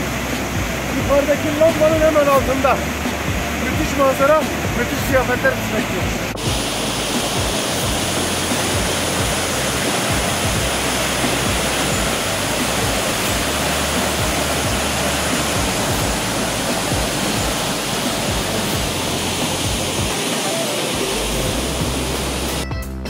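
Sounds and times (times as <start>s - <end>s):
waterfall rushing: 0.0s - 22.6s.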